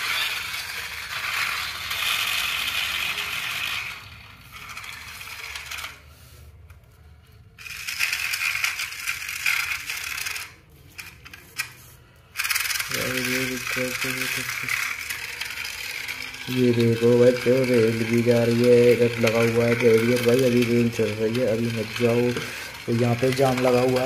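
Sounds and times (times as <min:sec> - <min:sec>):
toy motors whirring: 0:00.0 - 0:24.0.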